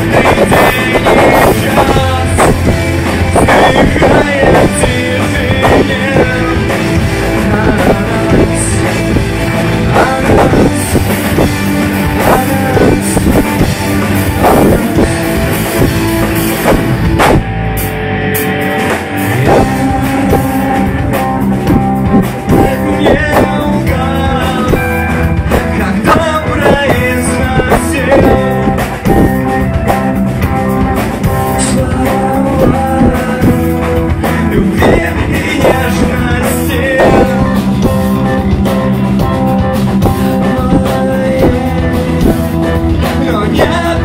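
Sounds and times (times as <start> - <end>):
person singing: 0.0 - 16.8, 18.6 - 29.7, 31.3 - 44.0
drum kit: 0.0 - 44.0
guitar: 0.0 - 44.0.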